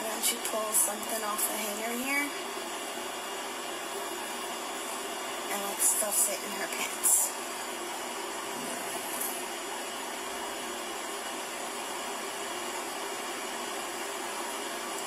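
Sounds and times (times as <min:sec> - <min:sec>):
server fan noise: 0:00.0 - 0:15.0.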